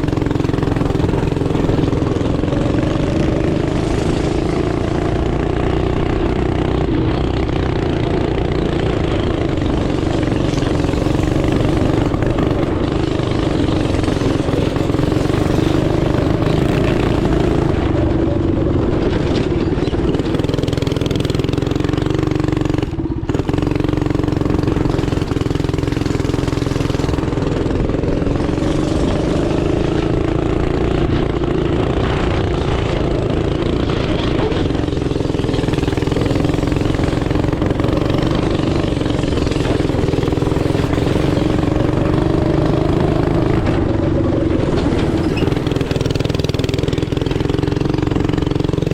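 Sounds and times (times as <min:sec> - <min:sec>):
small engine running at high revs: 0:00.0 - 0:48.9.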